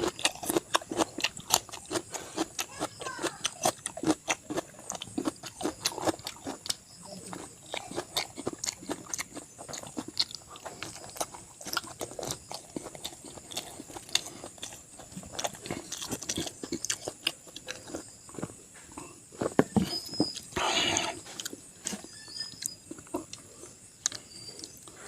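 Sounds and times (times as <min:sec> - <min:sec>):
close chewing and crunching: 0:00.0 - 0:25.0.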